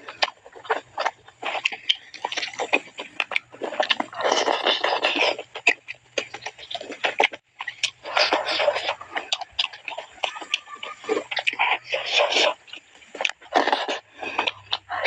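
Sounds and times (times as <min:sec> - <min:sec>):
chewing and biting chicken: 0:00.0 - 0:15.0
faint low hum: 0:00.0 - 0:15.0.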